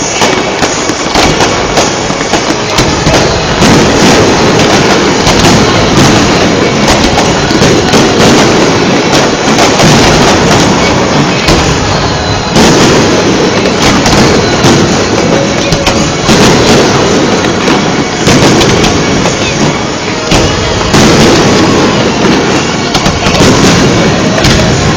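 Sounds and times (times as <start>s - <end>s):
fireworks bangs and crackling: 0.0s - 24.9s.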